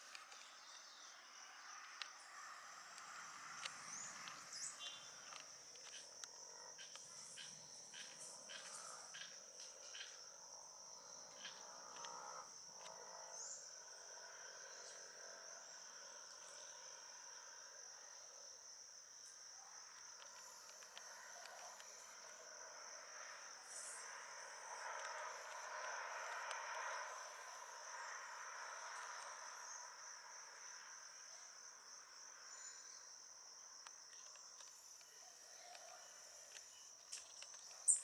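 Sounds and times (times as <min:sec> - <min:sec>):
insect drone: 0:00.0 - 0:38.0.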